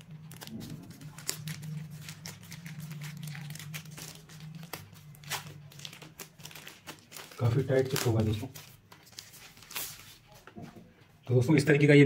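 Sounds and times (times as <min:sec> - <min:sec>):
plastic sleeve crinkling: 0:00.0 - 0:10.5.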